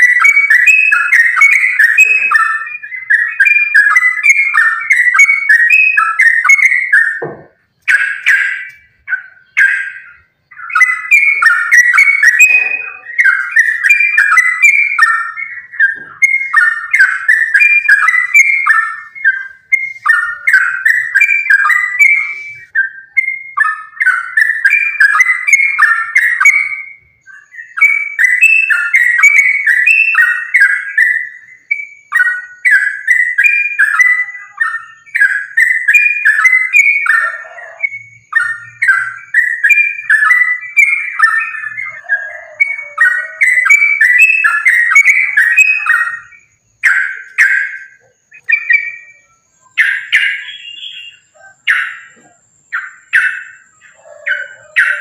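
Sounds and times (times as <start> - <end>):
bird singing whistled phrases: 0.0 - 55.0.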